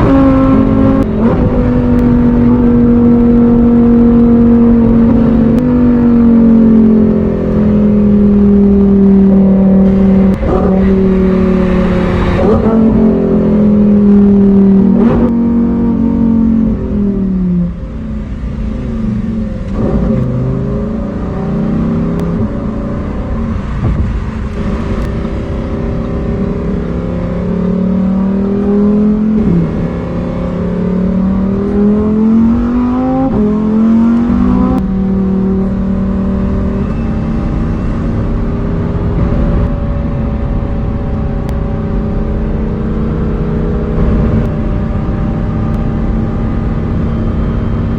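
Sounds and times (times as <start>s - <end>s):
sports car engine and exhaust: 0.0s - 47.9s.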